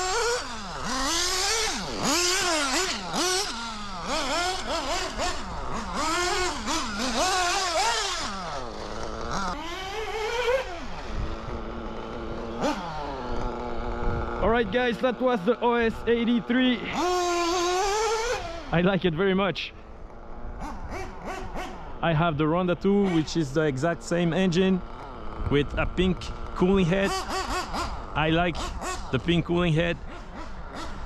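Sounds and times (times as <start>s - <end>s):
nitro engine revving: 0.0s - 31.0s.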